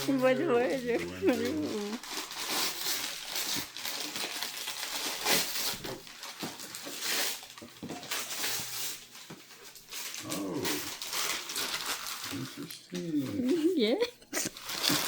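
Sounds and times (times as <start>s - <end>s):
packaging rustling and crinkling: 0.0s - 13.5s, 14.4s - 15.0s.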